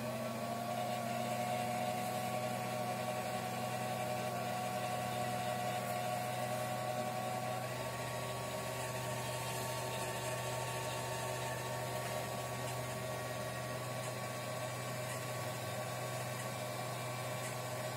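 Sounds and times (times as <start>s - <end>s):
motor whine: 0.0s - 17.9s.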